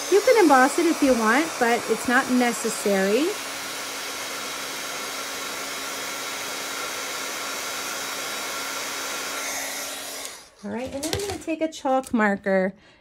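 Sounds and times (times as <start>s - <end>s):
heat tool blowing air: 0.0s - 10.7s.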